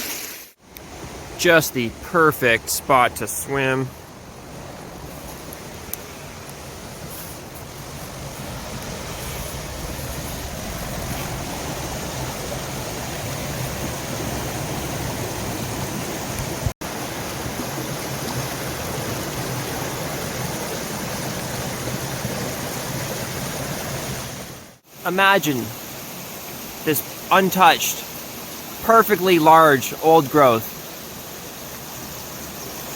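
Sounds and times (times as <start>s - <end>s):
waterfall and river rushing: 0.0s - 32.9s.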